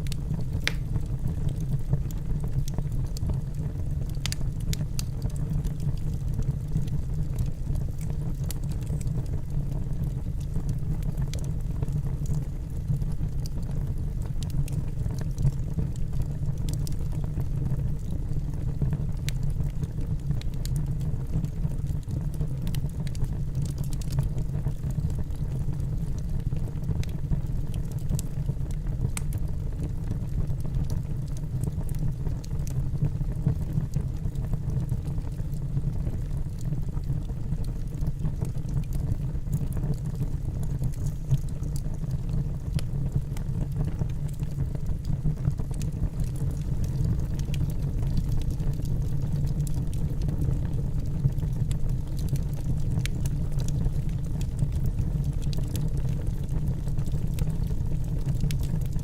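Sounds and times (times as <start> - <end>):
faint crackles and pops of logs: 0.0 - 59.0
low rumble of flames: 0.0 - 59.0.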